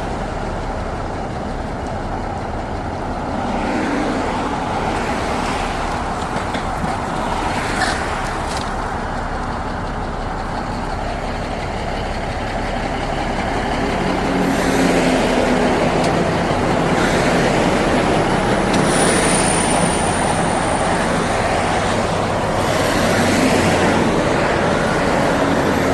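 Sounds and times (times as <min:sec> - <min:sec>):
heavy truck engine running: 0:00.0 - 0:25.9
road traffic noise: 0:00.0 - 0:25.9.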